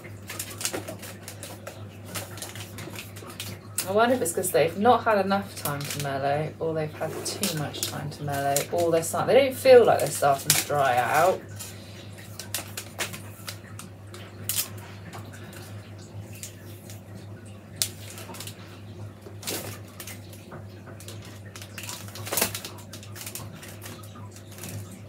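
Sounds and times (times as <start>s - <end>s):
willow stems rustling and clicking: 0.0s - 4.5s, 5.6s - 6.2s, 7.1s - 9.2s, 9.8s - 17.0s, 17.8s - 18.7s, 19.3s - 25.0s.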